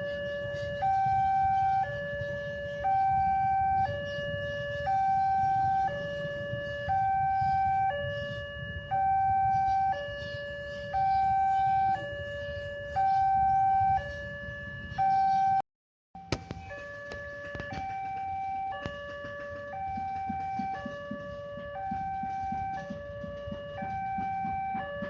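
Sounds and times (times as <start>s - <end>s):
two-tone warning siren: 0.0s - 15.6s, 16.2s - 25.0s.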